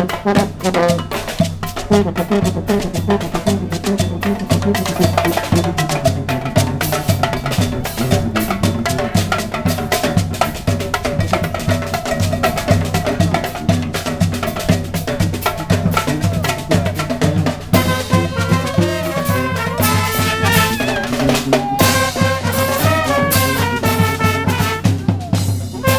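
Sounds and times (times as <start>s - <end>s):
brass band playing: 0.0s - 25.9s
drums and wood-block percussion: 0.0s - 25.9s.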